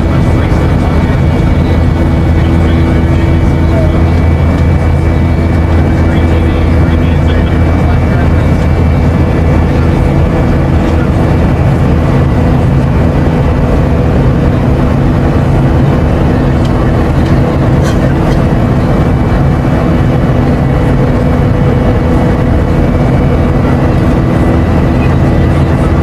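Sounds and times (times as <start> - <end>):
jet engine hum: 0.0 - 26.0
rushing airflow: 0.0 - 26.0.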